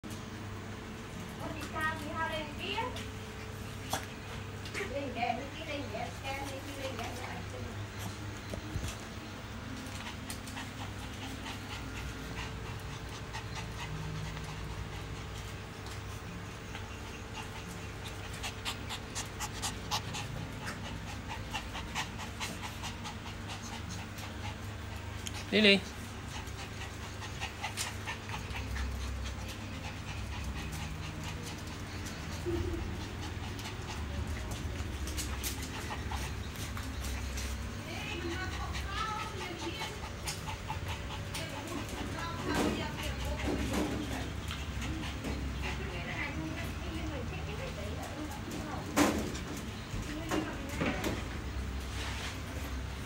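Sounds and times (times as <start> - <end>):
puppies eating dry kibble: 0.1 - 53.0
dog panting rapidly: 1.0 - 51.6.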